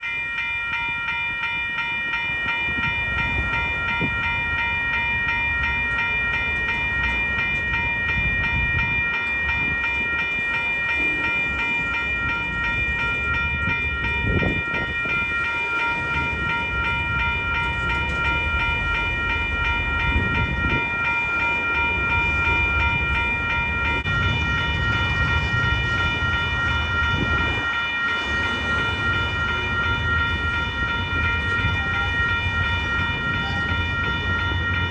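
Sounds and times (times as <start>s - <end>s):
railroad crossing bell ringing: 0.0s - 34.9s.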